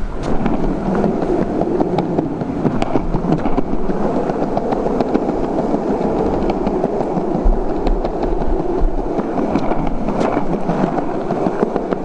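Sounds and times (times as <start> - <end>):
skateboard wheels rolling on cobblestones: 0.0 - 12.0.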